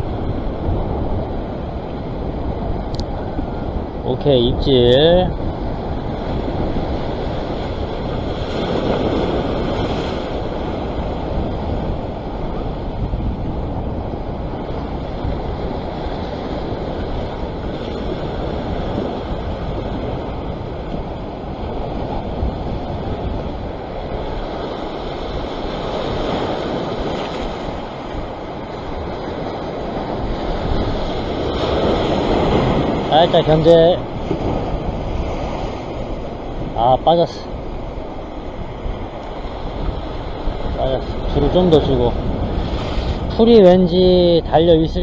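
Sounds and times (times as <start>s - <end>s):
waves washing against rocks: 0.0s - 45.0s
wind buffeting microphone: 0.0s - 45.0s.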